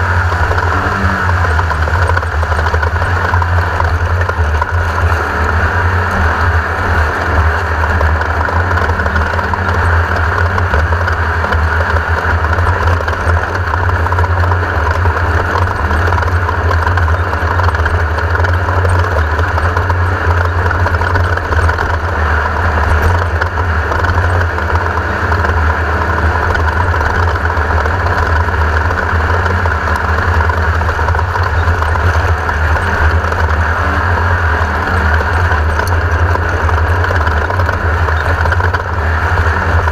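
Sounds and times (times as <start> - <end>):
race car engine running loud: 0.0 - 39.9.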